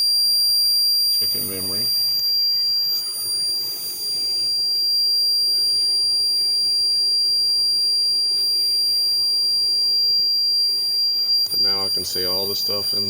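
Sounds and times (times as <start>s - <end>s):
high-pitched alarm tone: 0.0s - 13.0s.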